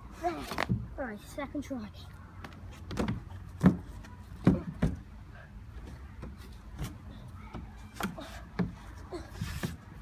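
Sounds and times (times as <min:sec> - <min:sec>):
child climbing on statue: 0:00.1 - 0:10.0.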